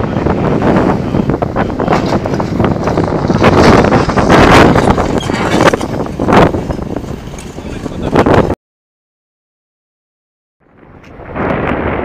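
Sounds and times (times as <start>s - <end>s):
wind buffeting microphone: 0.0s - 8.6s, 10.6s - 12.0s.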